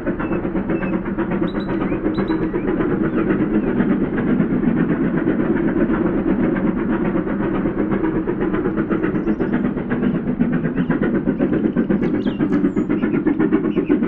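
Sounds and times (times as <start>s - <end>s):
steam train clattering: 0.0s - 14.0s.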